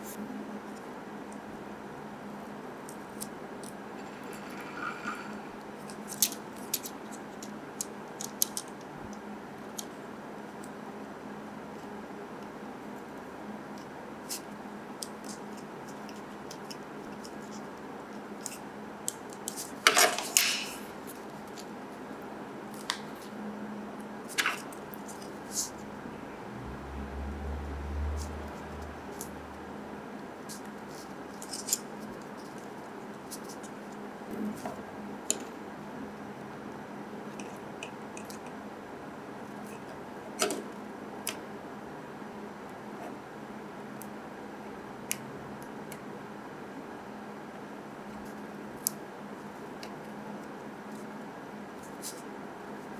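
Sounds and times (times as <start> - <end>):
steady low hum: 0.0 - 19.8, 20.5 - 52.9.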